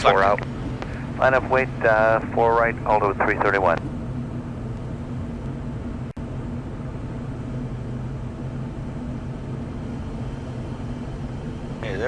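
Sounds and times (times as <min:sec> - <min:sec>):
aircraft engine and airflow drone: 0:00.0 - 0:12.0.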